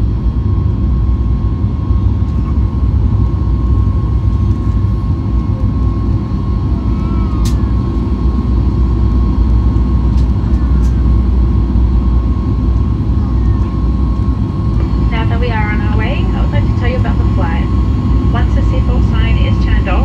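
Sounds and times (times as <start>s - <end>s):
jet engine rumble with whine: 0.0s - 20.0s.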